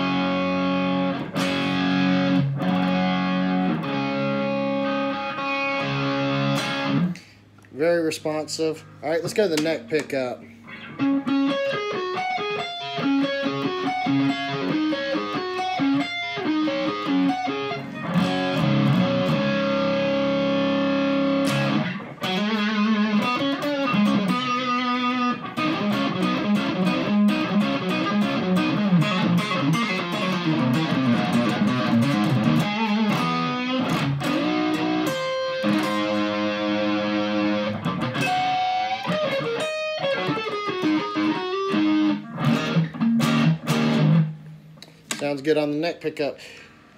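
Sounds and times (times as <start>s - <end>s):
overdriven electric guitar riffs: 0.0s - 7.6s, 8.9s - 45.2s.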